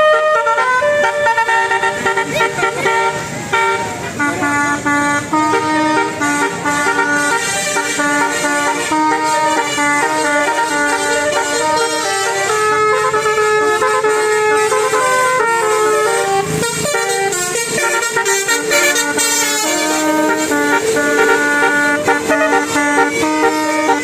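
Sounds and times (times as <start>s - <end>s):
horns playing sustained notes: 0.0s - 24.0s.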